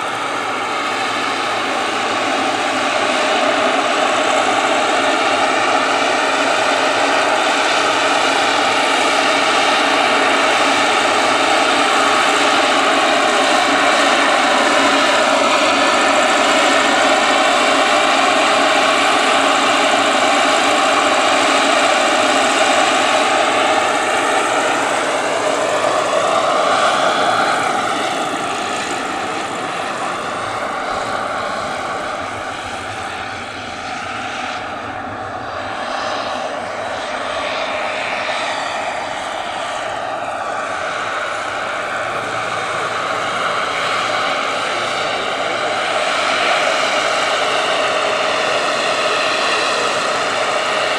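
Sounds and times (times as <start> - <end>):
model helicopter turbine whine: 0.0 - 50.9.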